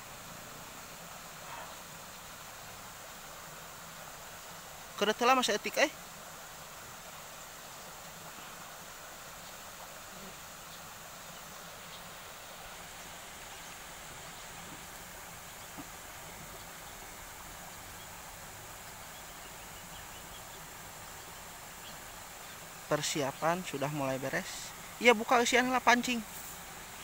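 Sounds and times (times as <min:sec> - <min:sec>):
high insect drone: 0:00.0 - 0:27.0
soft hiss: 0:00.0 - 0:27.0.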